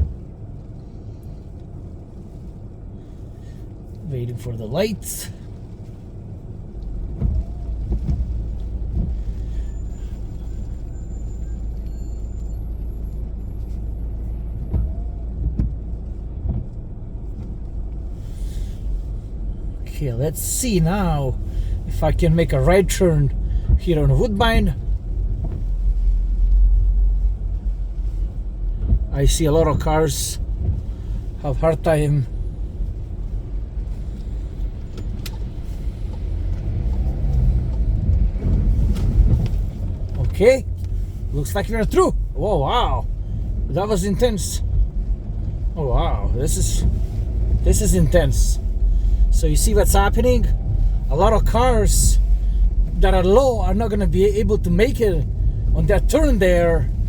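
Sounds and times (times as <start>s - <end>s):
car idling cabin rumble: 0.0s - 57.0s.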